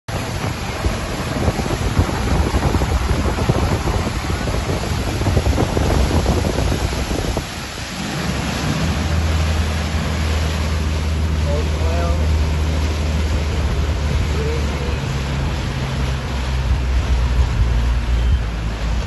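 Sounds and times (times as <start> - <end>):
boat motor humming: 0.1 - 19.0
wind buffeting microphone: 0.1 - 19.0.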